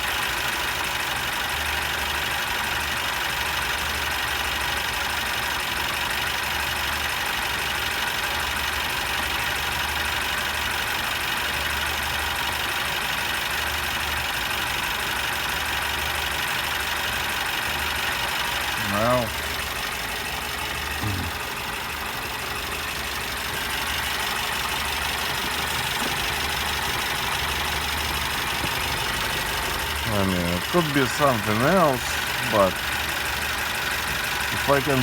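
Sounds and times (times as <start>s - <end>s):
engine idling with misfire: 0.0s - 35.0s.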